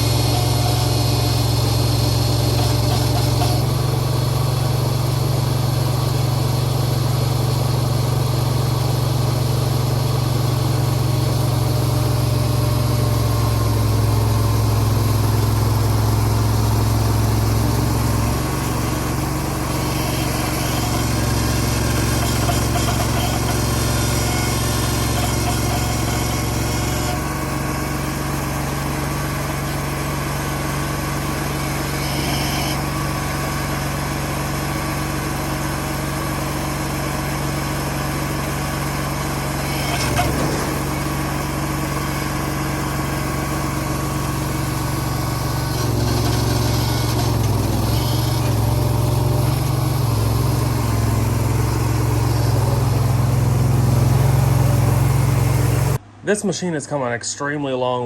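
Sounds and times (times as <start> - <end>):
diesel engine running: 0.0 - 57.8.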